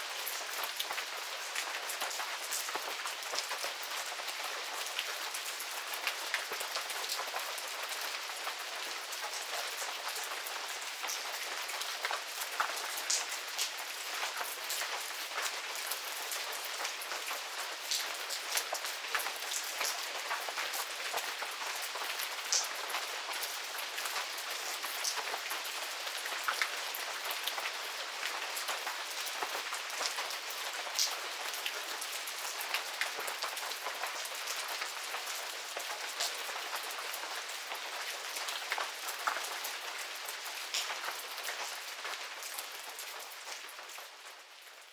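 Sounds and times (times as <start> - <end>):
rain falling: 0.0 - 44.9
raindrops ticking on surfaces: 0.0 - 44.9.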